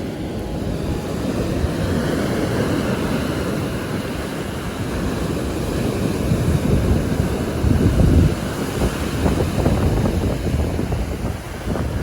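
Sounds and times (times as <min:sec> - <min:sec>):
waves washing on shore: 0:00.0 - 0:12.0
wind on microphone: 0:00.0 - 0:12.0.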